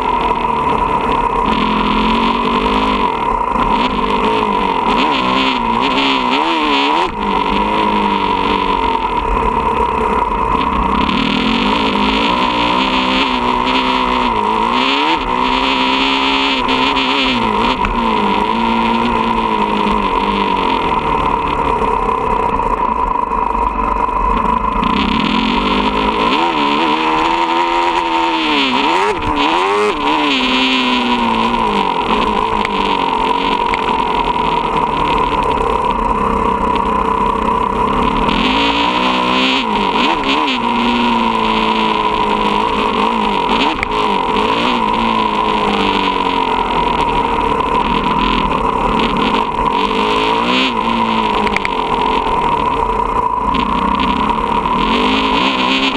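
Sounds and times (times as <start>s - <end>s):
dirt bike engine revving: 0.0s - 55.9s
steady high whine: 0.0s - 55.9s.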